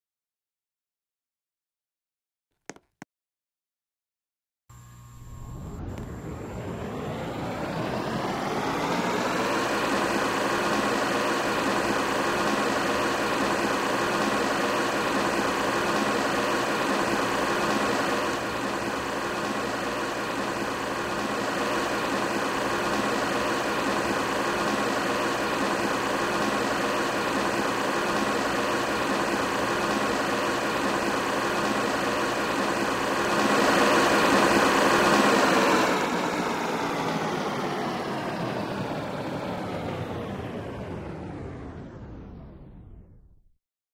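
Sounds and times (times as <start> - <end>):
electric fan motor hum: 4.7 - 41.6.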